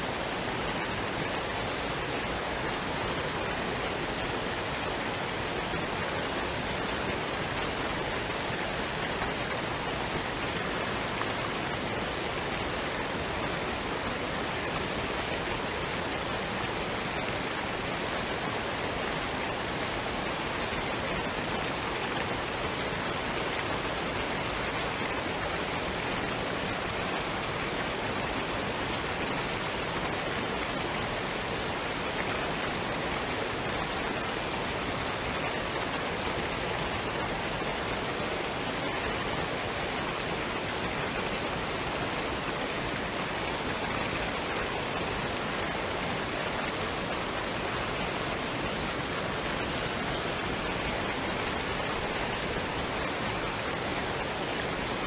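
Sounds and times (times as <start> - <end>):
waterfall and stream rushing: 0.0 - 55.0.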